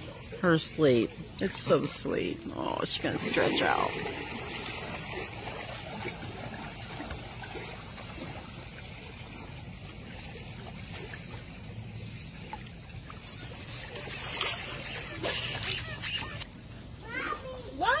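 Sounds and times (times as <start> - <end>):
pool water lapping and trickling: 0.0 - 18.0.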